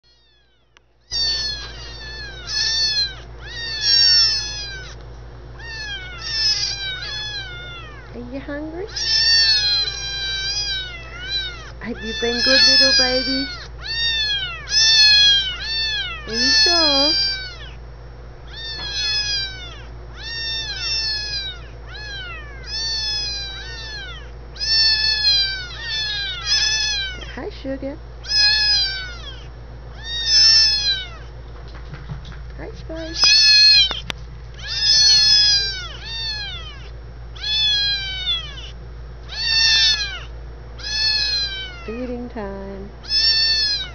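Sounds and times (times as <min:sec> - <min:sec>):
kittens mewing: 0:00.1 - 0:27.6, 0:28.2 - 0:31.4, 0:32.9 - 0:42.2, 0:42.9 - 0:43.9.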